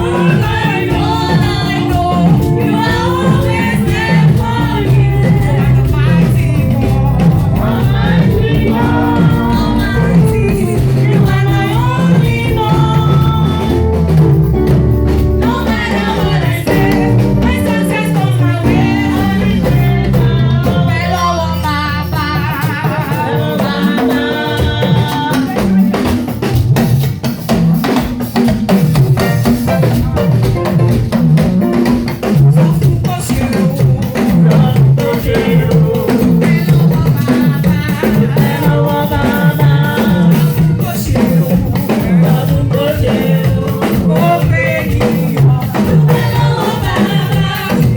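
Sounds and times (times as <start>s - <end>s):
people singing: 0.0s - 26.6s, 31.2s - 47.9s
bass line: 0.0s - 27.0s, 29.0s - 47.9s
drum kit beat: 0.0s - 47.9s.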